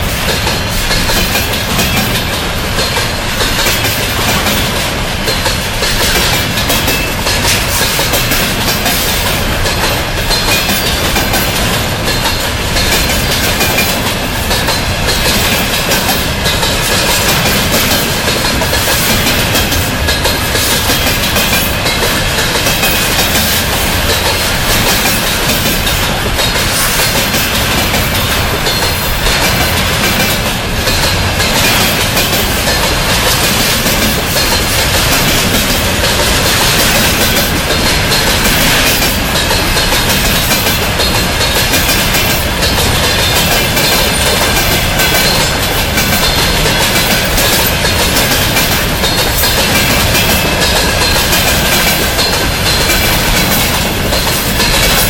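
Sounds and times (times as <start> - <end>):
freight train wheels rumbling: 0.0 - 55.0
wheels clacking over rail joints: 0.0 - 55.0.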